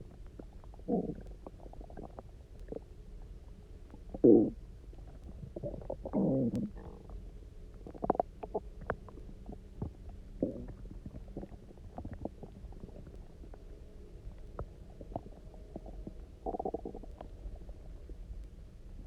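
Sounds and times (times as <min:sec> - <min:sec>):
stomach gurgling: 0:00.0 - 0:19.0.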